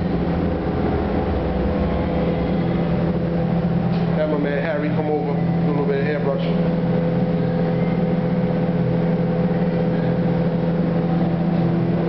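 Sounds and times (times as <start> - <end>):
exhaust fans humming: 0.0 - 12.0.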